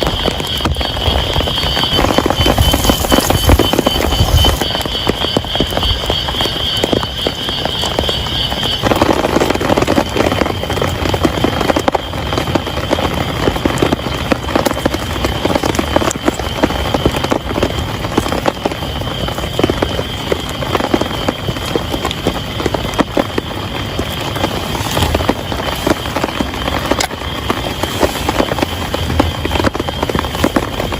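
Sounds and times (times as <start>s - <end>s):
heavy rain pattering: 0.0s - 30.9s.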